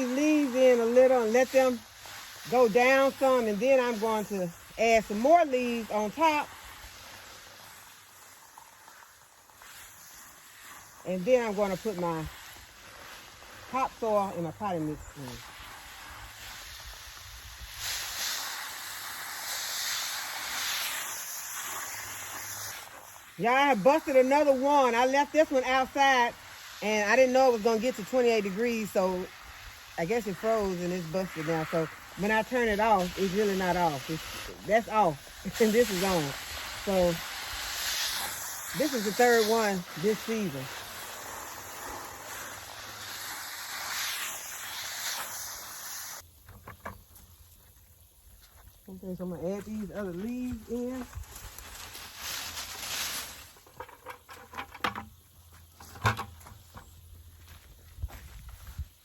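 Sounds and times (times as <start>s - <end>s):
water spraying from hose nozzle: 0.0s - 46.4s, 49.0s - 55.1s.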